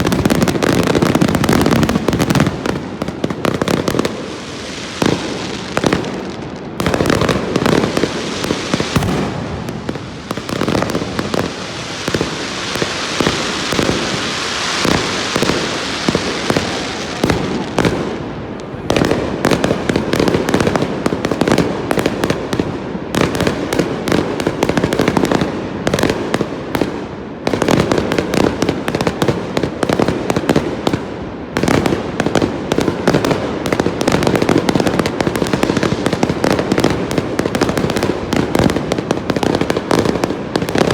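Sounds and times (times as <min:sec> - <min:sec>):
fireworks crackling: 0:00.0 - 0:40.9.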